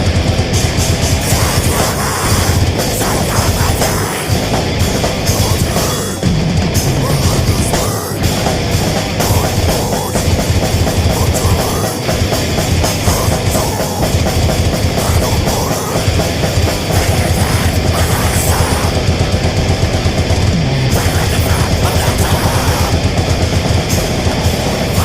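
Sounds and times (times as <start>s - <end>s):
distorted guitars: 0.0s - 25.0s
rapid pounding drums: 0.0s - 25.0s.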